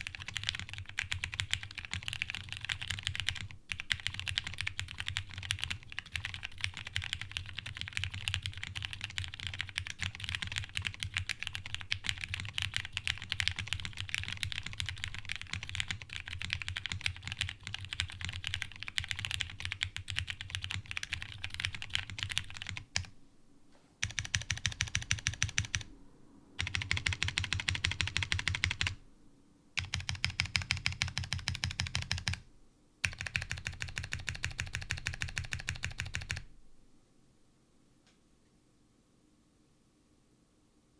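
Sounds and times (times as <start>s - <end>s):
mechanical keyboard typing: 0.0s - 23.1s, 24.0s - 25.9s, 26.6s - 29.0s, 29.8s - 32.4s, 33.0s - 36.5s.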